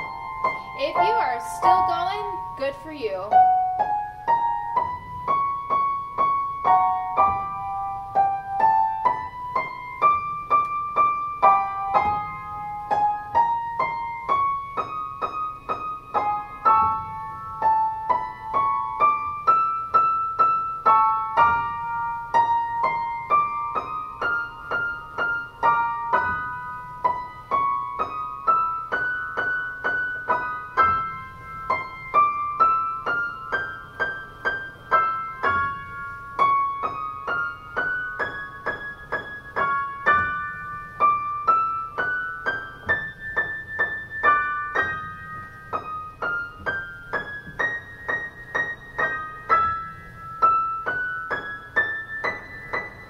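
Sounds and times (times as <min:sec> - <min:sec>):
piano playing scale runs: 0:00.0 - 0:53.0.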